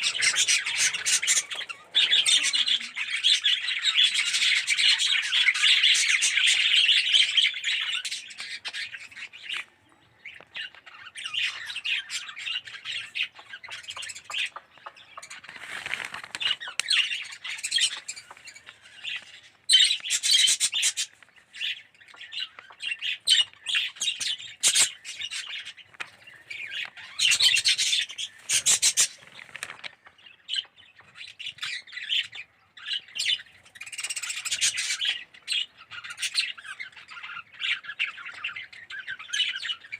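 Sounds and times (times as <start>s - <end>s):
budgerigars chattering: 0.0s - 15.5s, 16.4s - 29.4s, 30.1s - 39.9s.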